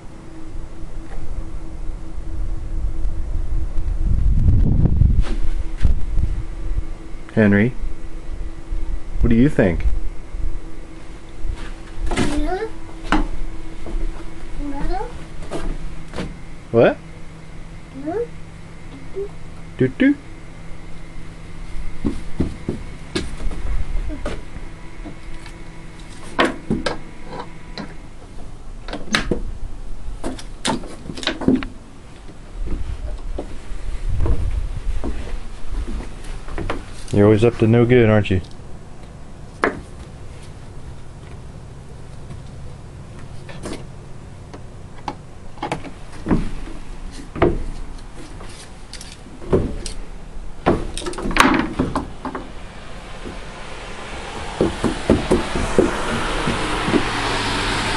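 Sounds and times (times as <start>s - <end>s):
faint steady hum: 0.0s - 57.9s.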